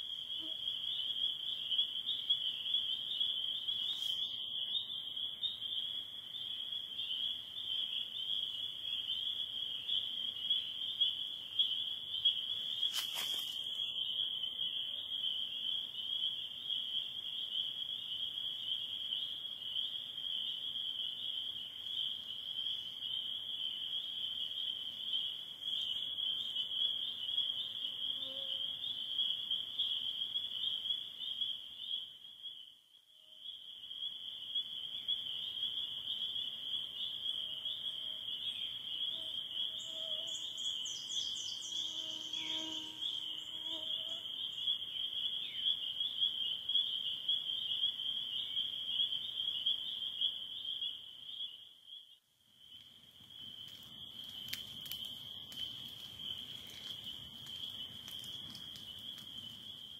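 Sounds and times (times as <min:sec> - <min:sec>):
frogs peeping in chorus: 0:00.0 - 0:59.9.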